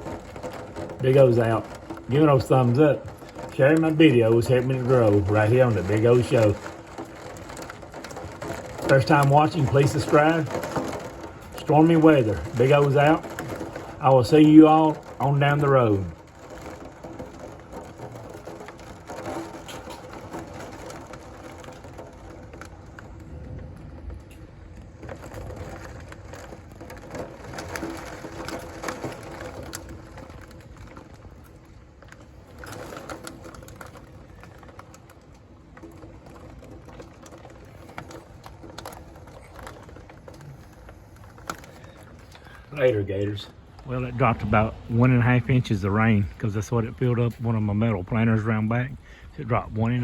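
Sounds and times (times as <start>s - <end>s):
rain and hail on windows: 0.0s - 50.0s.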